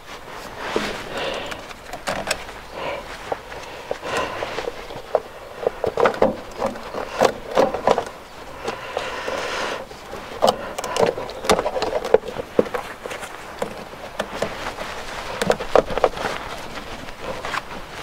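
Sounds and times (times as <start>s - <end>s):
rubbing and rustling: 0.0s - 18.0s
plastic clicks and creaks: 1.1s - 2.6s, 3.3s - 17.7s.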